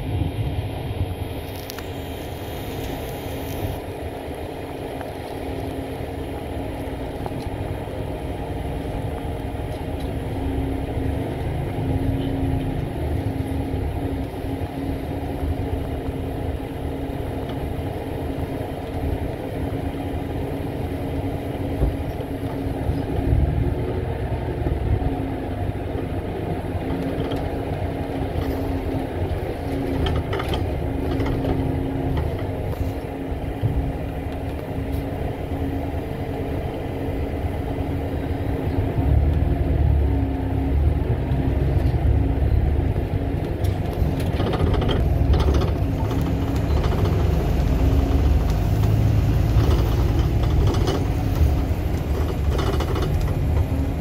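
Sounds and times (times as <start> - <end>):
bus engine and road noise: 0.0 - 54.0
low hum: 0.0 - 54.0.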